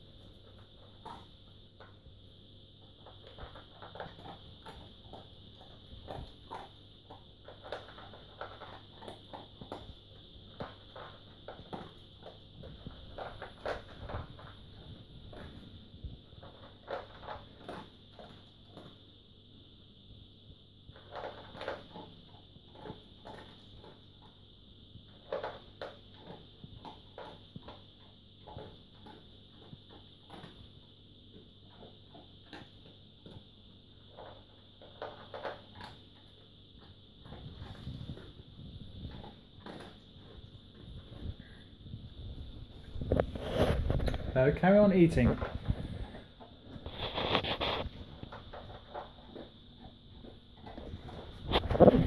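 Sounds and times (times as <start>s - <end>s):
dog crunching dry kibble: 0.0s - 19.1s, 20.9s - 52.0s.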